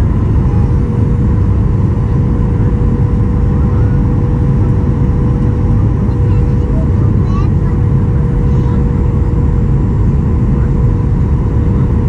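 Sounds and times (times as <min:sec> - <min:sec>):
airplane cabin rumble: 0:00.0 - 0:12.0
steady hum: 0:00.0 - 0:12.0.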